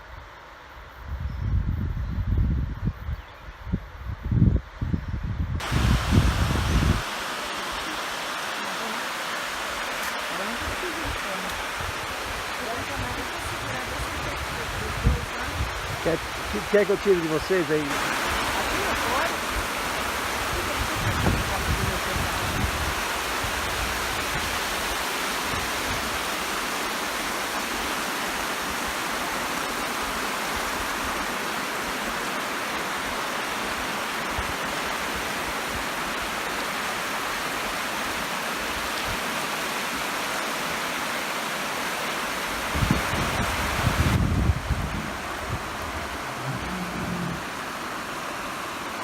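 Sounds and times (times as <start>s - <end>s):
waterfall roaring: 5.6s - 49.0s.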